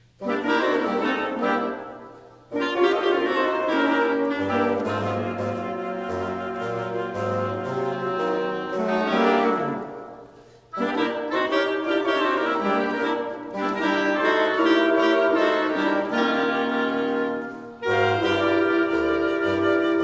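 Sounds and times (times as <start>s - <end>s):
woodwind quintet playing: 0.0s - 20.0s.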